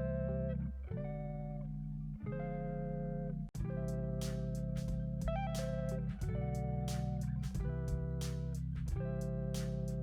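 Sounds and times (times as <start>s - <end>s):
guitar-led music with deep bass: 0.0s - 10.0s.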